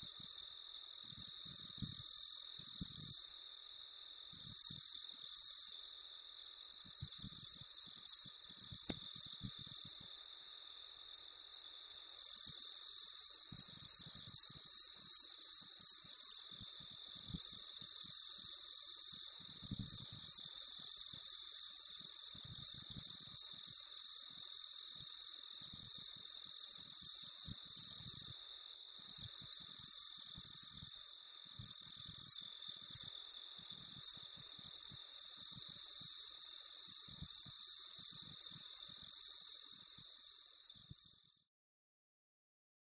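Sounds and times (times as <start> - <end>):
crickets chirping: 0.0 - 41.4
steady insect trill: 0.0 - 41.4.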